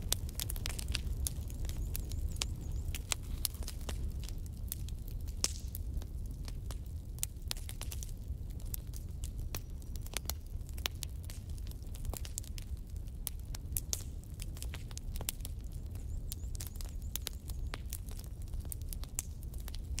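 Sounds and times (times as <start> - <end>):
sharp crackles and clicks: 0.0 - 20.0.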